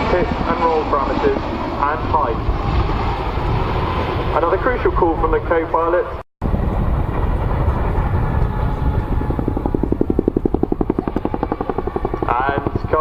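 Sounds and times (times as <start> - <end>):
helicopter rotor and engine rumble: 0.0 - 13.0.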